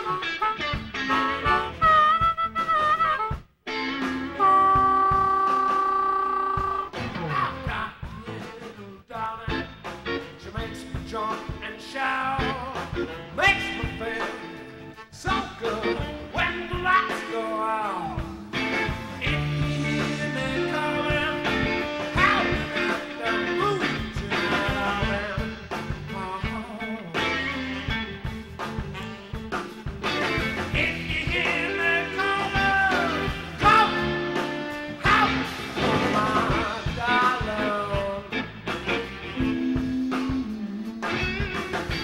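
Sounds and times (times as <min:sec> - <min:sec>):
lead guitar bending notes: 0:00.0 - 0:07.7, 0:13.0 - 0:42.0
electric blues band playing: 0:00.0 - 0:42.0.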